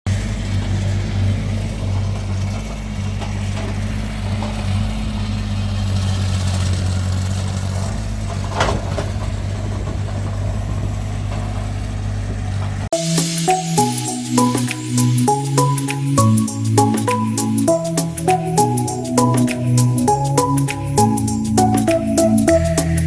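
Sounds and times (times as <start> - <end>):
heavy vehicle engine idling: 0.0 - 12.9, 13.5 - 23.0.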